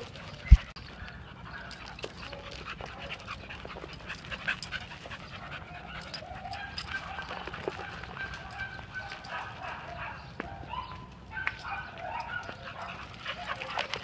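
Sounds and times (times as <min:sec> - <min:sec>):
dogs panting: 0:00.0 - 0:14.0.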